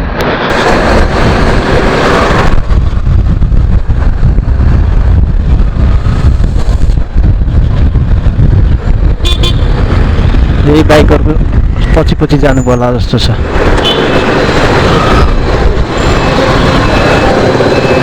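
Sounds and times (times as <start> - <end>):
engine and road rumble: 0.0 - 18.0
wind rushing over microphone: 0.0 - 18.0.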